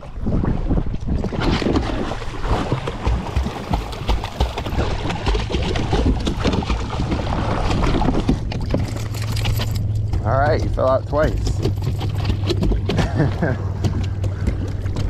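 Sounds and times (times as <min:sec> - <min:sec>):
paddle dipping in water: 0:00.0 - 0:15.0
dog splashing in water: 0:01.4 - 0:15.0.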